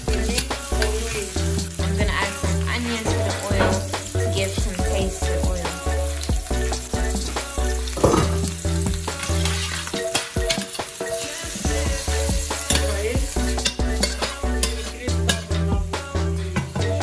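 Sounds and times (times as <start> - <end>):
onions sizzling in oil: 0.0 - 15.7
background music with bass: 0.0 - 17.0.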